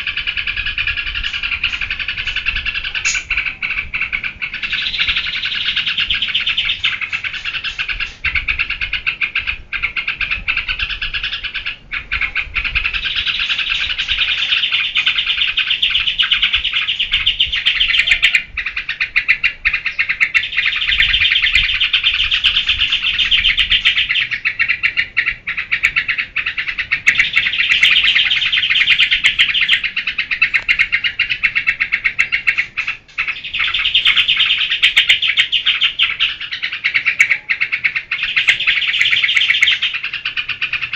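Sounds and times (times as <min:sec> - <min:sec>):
bird singing rapid chattering notes: 0:00.0 - 0:40.9.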